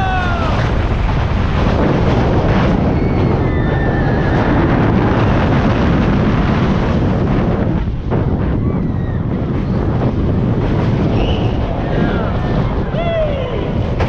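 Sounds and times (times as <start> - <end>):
roller coaster train rolling: 0.0 - 14.0
wind rush on microphone: 0.0 - 14.0.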